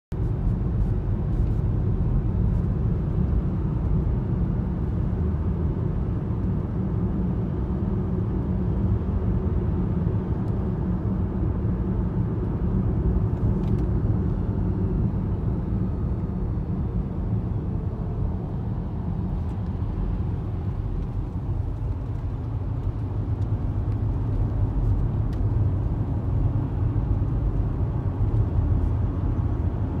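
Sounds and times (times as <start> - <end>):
car road noise rumble: 0.1 - 30.0.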